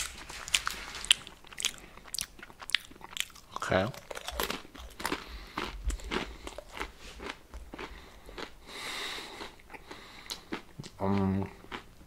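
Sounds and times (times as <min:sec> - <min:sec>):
crunchy chewing: 0:00.0 - 0:12.0.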